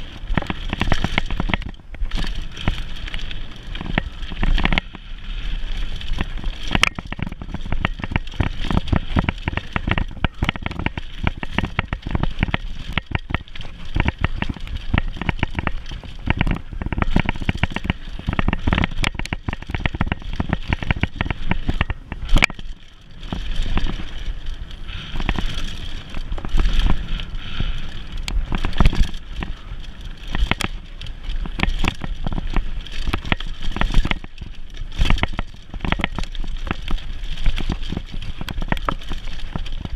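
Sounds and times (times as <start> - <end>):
bike chain and frame rattling: 0.0 - 39.9
tyres rumbling on dirt: 0.0 - 39.9.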